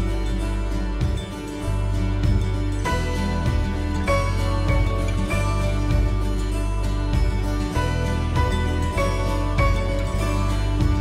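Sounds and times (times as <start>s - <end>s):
deep bass: 0.0s - 11.0s
music with sustained chords: 0.0s - 11.0s.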